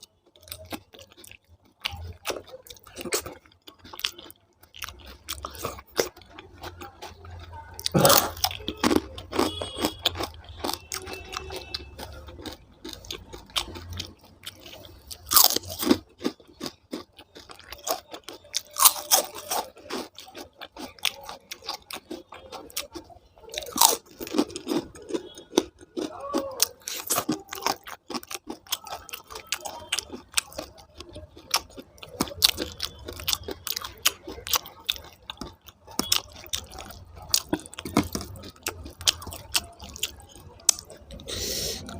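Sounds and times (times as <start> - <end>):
person chewing and crunching food: 0.0 - 41.9.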